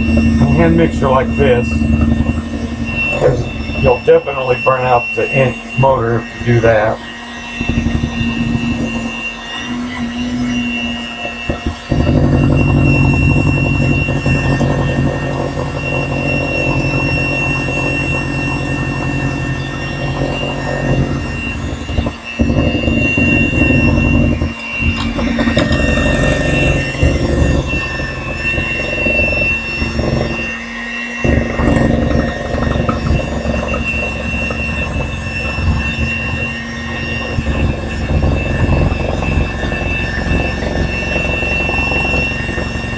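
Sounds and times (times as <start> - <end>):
electric hand mixer whining: 0.0 - 42.9.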